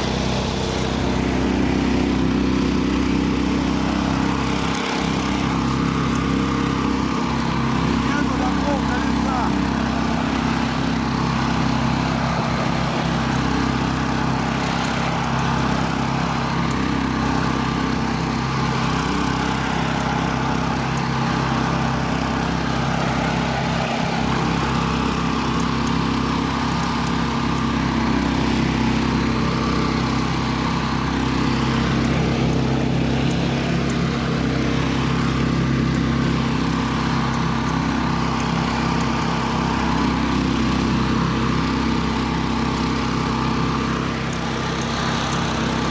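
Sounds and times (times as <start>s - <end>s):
vehicle engine running in snow: 0.0s - 45.9s.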